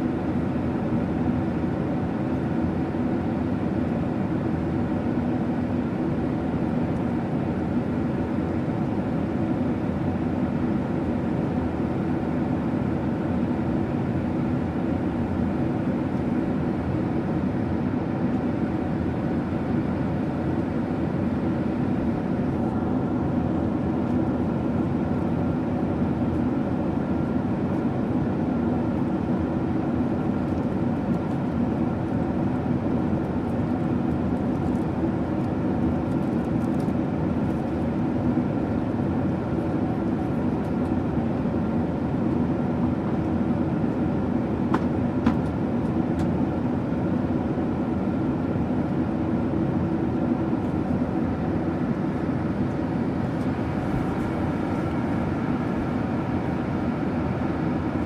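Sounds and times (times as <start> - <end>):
airliner cabin engine hum: 0.0 - 58.0.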